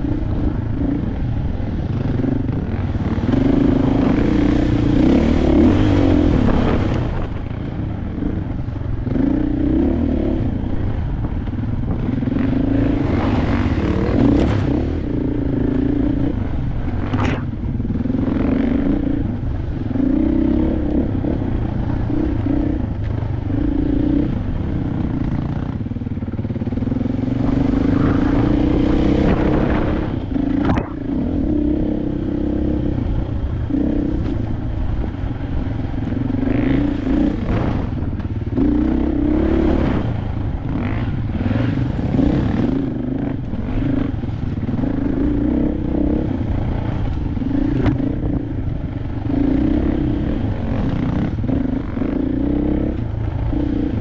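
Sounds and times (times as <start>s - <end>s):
dirt bike engine revving: 0.0s - 11.3s, 11.9s - 54.0s.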